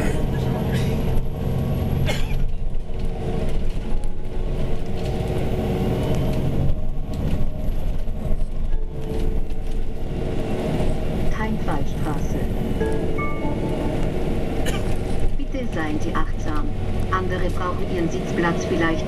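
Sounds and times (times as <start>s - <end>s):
bus rumble and hum: 0.0s - 19.0s.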